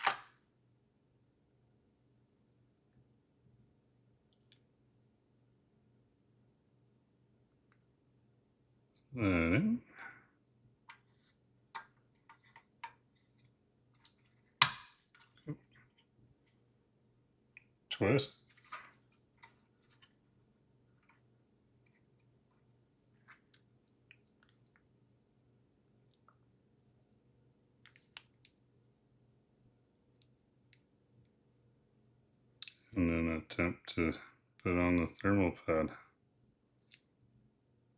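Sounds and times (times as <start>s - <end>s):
faint low hum: 0.0s - 37.9s.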